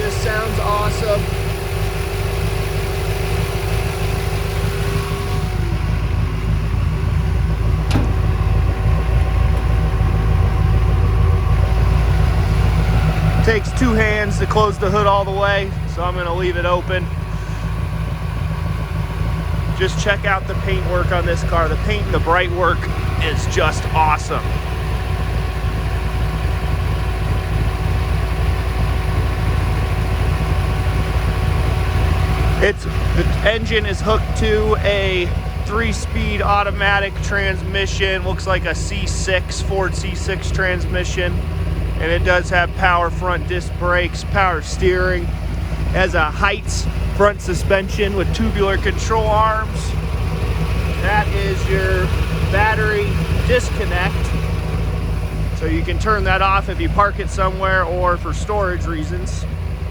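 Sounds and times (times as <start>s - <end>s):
engine idling rumble: 0.0s - 59.9s
thin steady whine: 0.0s - 59.9s.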